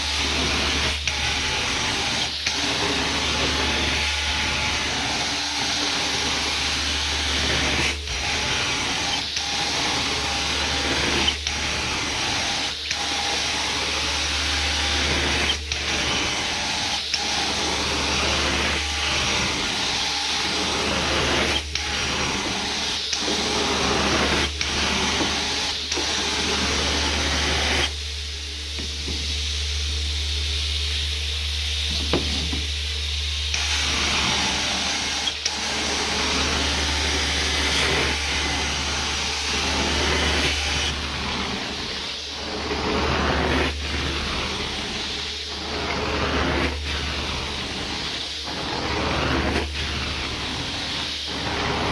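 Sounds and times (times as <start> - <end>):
carpet cleaning vacuum running: 0.0 - 51.9.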